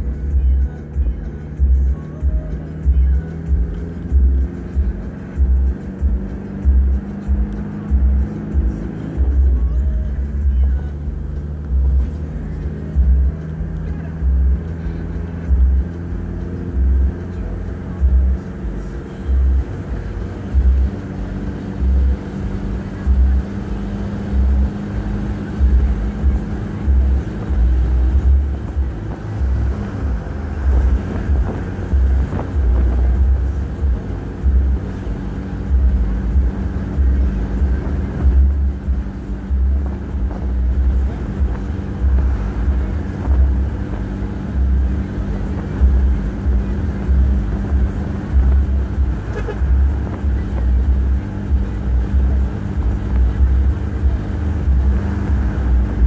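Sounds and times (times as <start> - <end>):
car engine and tyre drone: 0.0 - 56.0
low road rumble: 0.0 - 56.0.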